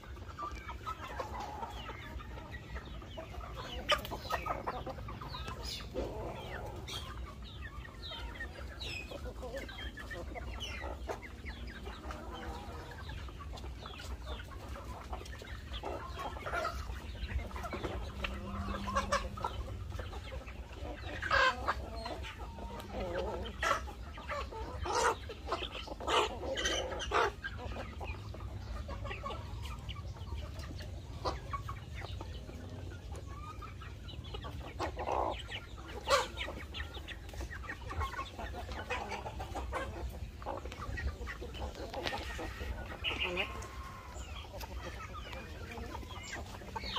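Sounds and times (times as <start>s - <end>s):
chickens clucking and squawking: 0.0s - 46.9s.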